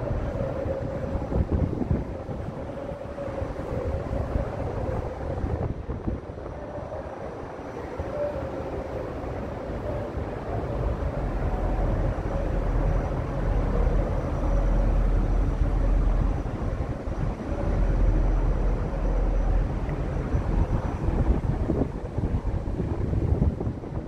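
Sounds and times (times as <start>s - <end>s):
steady hum: 0.0s - 24.0s
wind buffeting microphone: 0.0s - 24.0s.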